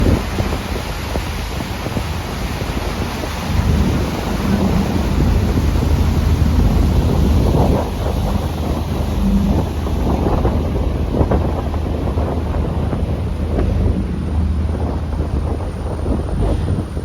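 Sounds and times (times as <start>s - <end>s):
steady low rumble: 0.0s - 17.0s
water rushing: 0.0s - 17.0s
wind buffeting microphone: 0.0s - 17.0s.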